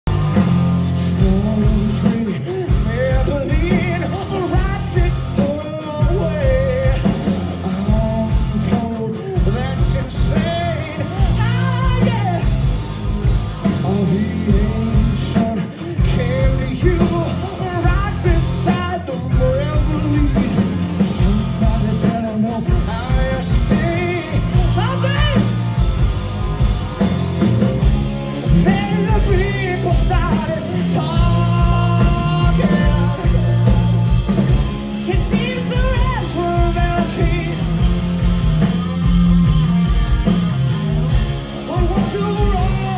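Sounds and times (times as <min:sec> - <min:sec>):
rock band playing live: 0:00.0 - 0:42.9
person singing: 0:01.0 - 0:12.6, 0:13.6 - 0:25.6, 0:28.3 - 0:38.0, 0:41.5 - 0:42.9.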